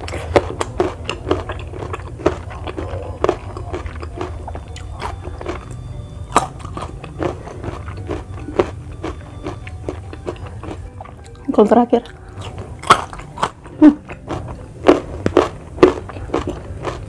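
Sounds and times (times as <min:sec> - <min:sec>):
crunchy chewing of raw vegetables: 0:00.0 - 0:17.0
low steady hum: 0:00.0 - 0:17.0.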